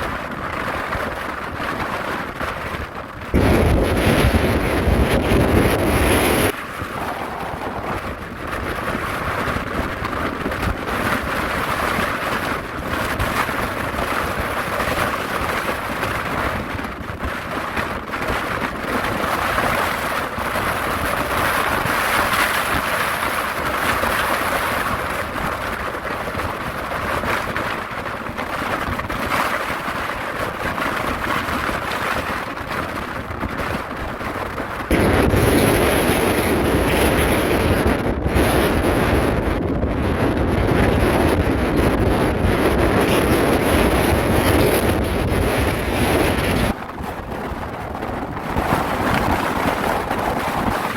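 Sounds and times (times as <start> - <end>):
waves breaking on rocks: 0.0 - 50.9
wind buffeting microphone: 0.0 - 50.9.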